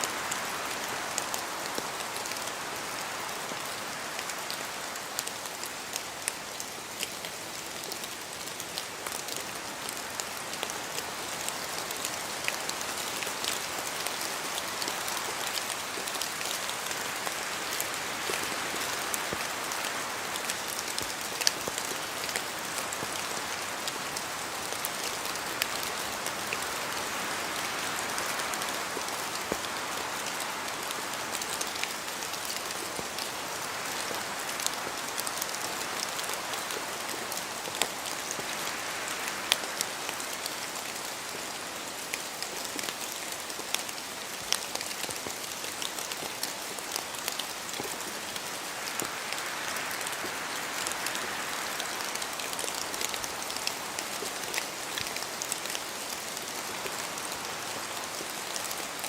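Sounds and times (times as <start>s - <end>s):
rain falling through trees: 0.0s - 59.0s.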